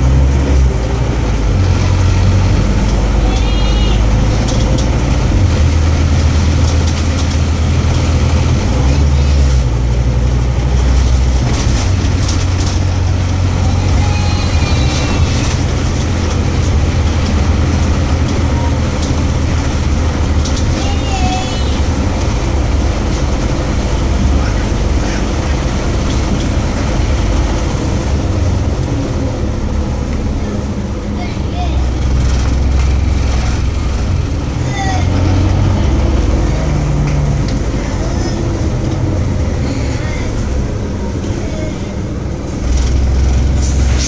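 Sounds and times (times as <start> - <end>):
bus engine and road rumble: 0.0 - 44.0.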